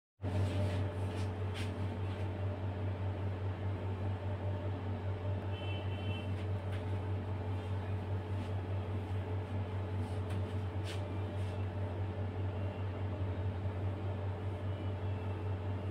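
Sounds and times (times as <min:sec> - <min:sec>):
low mechanical hum: 0:00.2 - 0:15.9.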